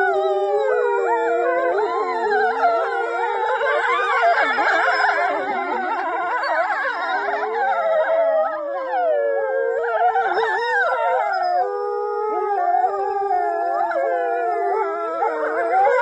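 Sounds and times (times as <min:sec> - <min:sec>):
wolves howling in chorus: 0:00.0 - 0:16.0.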